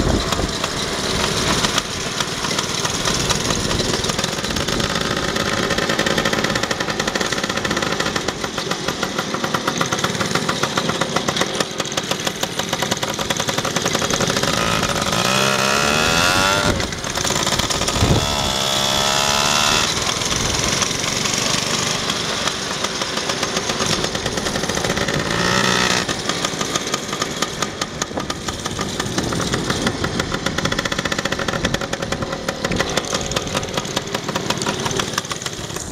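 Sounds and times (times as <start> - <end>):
go-kart engine revving: 0.0 - 35.9.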